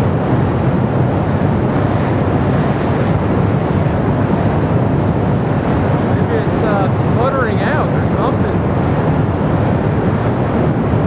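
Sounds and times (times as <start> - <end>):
steam venting rumble: 0.0 - 11.0.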